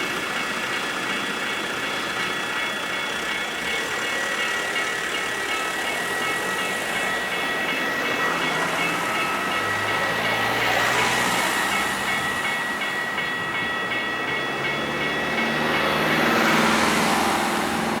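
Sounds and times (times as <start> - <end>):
train rolling noise: 0.0 - 18.0.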